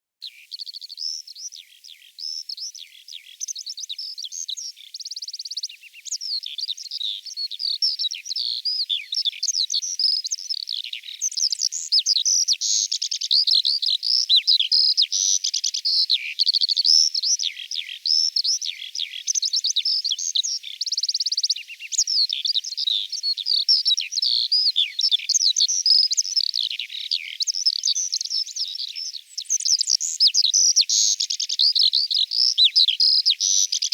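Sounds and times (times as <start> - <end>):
skylark singing: 0.2 - 33.9.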